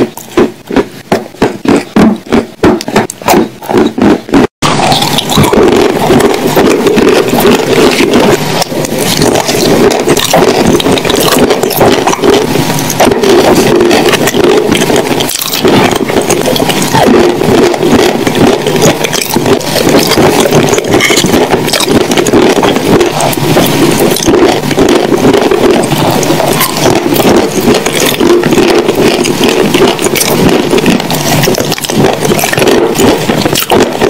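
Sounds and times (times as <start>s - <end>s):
wet sticky chewing sounds: 4.3s - 34.0s.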